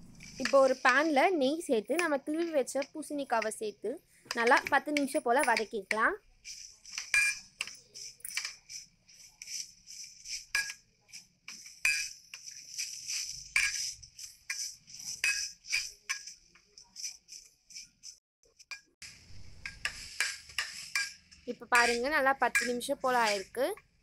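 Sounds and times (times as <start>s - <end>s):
spatula scraping pan: 0.0s - 1.2s, 4.3s - 23.6s.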